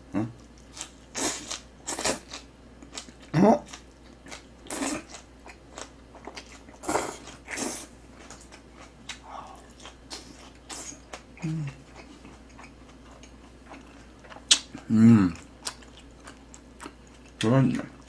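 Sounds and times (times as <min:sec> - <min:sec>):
chewing with crunchy bites: 0:00.4 - 0:18.0.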